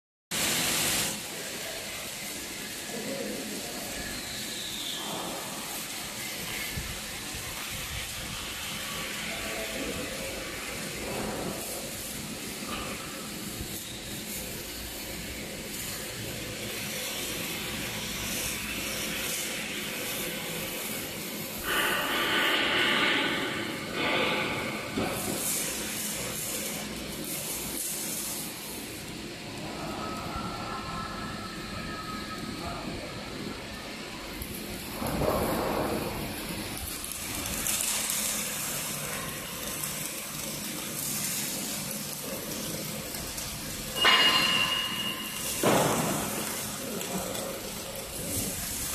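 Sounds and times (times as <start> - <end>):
loud hiss: 0.4 - 29.2, 34.1 - 48.9
steady hissing background noise: 0.4 - 48.9.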